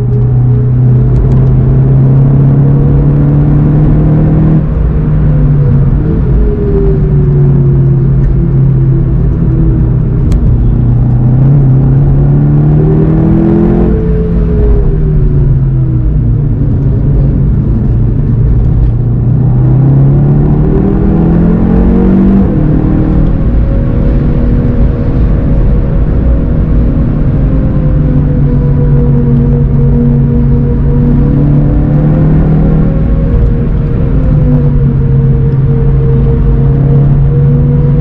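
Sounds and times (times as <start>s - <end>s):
car engine revving: 0.0s - 38.0s
tyre and road noise: 0.0s - 38.0s.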